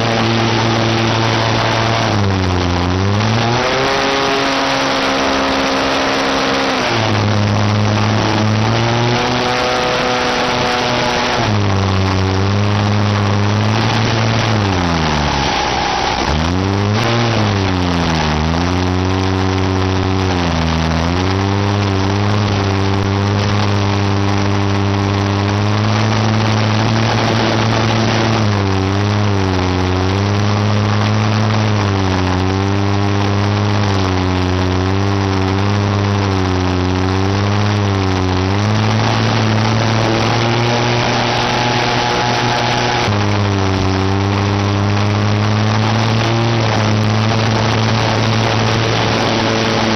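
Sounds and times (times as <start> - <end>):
engine revving: 0.0 - 49.9.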